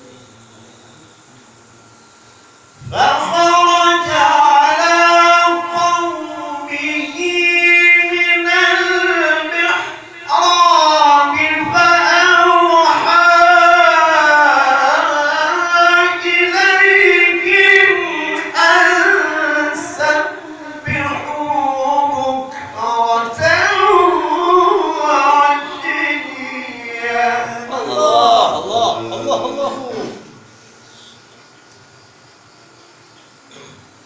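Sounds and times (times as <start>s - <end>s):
person reciting in melodic chant: 2.8s - 31.1s.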